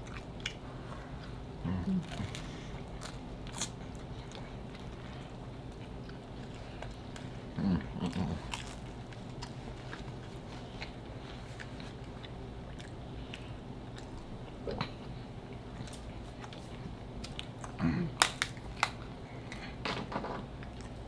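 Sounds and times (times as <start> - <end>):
chewing with wet mouth clicks: 0.0 - 1.4, 2.0 - 19.7
steady low hum: 0.0 - 21.0.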